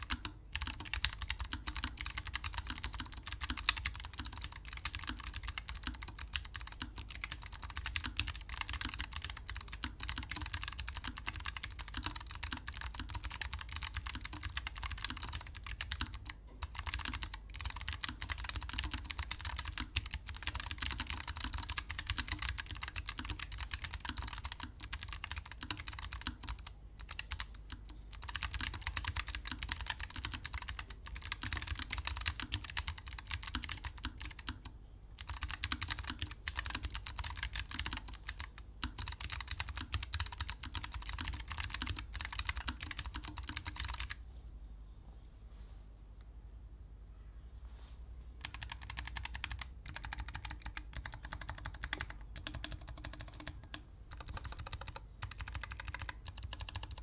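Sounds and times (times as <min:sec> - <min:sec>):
mechanical keyboard typing: 0:00.0 - 0:44.2, 0:48.4 - 0:57.0.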